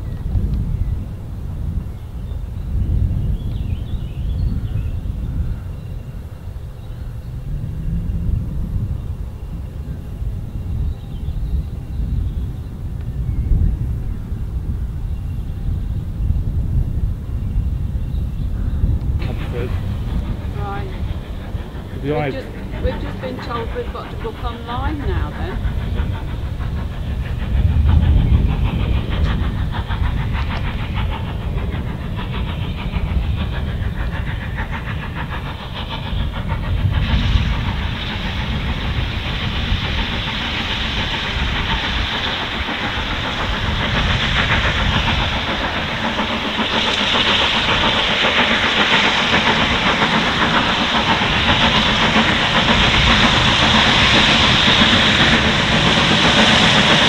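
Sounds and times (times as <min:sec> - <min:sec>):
loud steam hiss: 0:00.0 - 0:57.0
steam locomotive rumble: 0:00.0 - 0:57.0.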